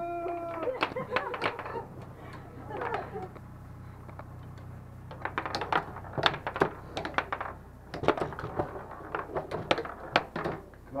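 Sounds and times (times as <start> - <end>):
foosball clacks and knocks: 0.5 - 2.1, 2.7 - 3.5, 4.2 - 10.8.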